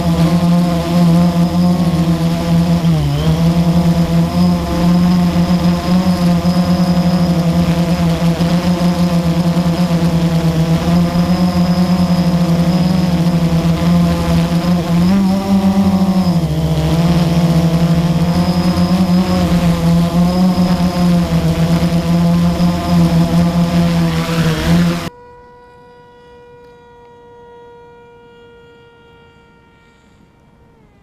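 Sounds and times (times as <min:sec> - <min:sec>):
drone motors and propellers: 0:00.0 - 0:25.1.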